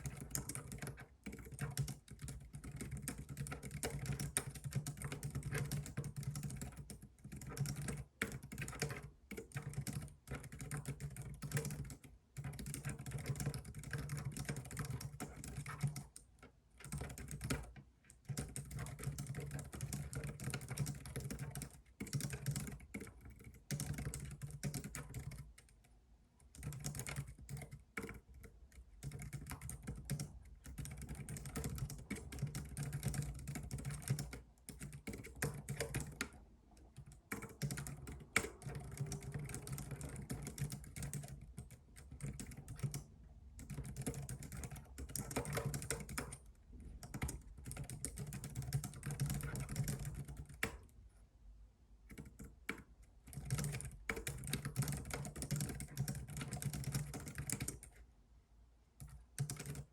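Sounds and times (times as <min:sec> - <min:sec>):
keyboard typing clicks: 0:00.0 - 0:25.8, 0:26.5 - 0:50.9, 0:52.1 - 0:58.0, 0:59.0 - 0:59.9.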